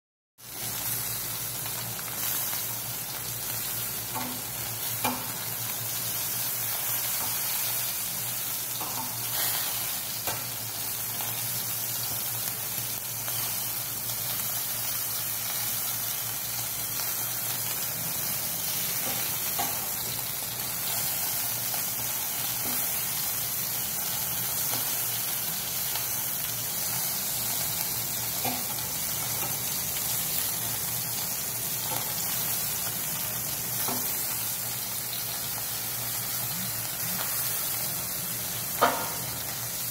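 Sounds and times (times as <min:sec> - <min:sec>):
chicken sizzling on a grill: 0:00.4 - 0:39.9.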